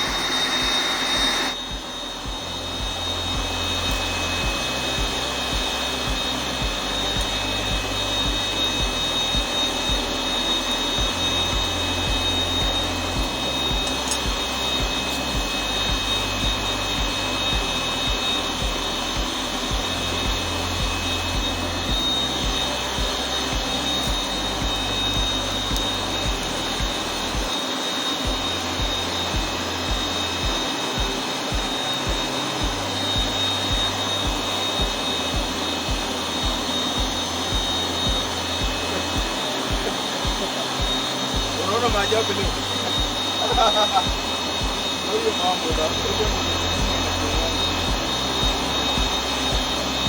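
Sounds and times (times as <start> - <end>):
background music with bass beat: 0.0 - 27.5, 28.2 - 50.0
electric air pump rushing: 0.0 - 50.0
thin high whine: 0.0 - 50.0.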